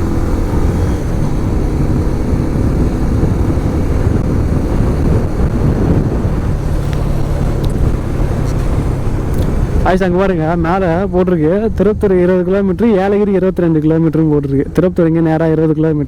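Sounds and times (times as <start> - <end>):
wind rush on microphone: 0.0 - 14.8
motorcycle engine tone: 0.0 - 16.0
road rumble: 0.0 - 16.0.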